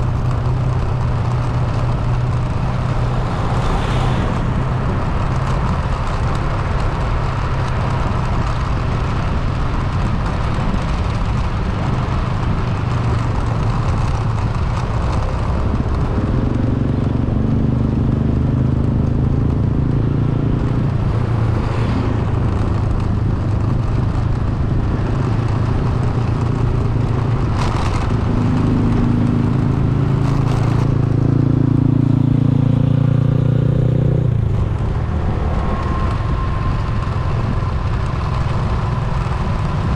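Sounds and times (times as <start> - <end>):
road noise: 0.0 - 39.9
vehicle engine: 0.0 - 39.9.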